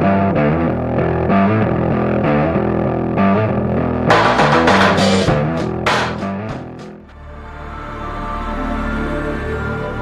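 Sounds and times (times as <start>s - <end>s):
background music: 0.3s - 10.0s.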